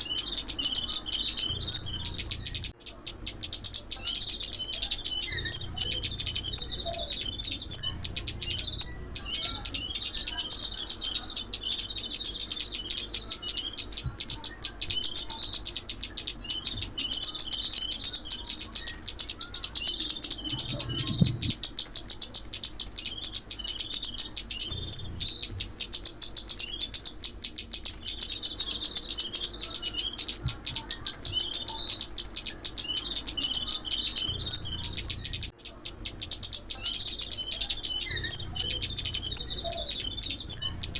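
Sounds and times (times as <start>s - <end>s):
bird chirping high-pitched: 0.0s - 40.9s.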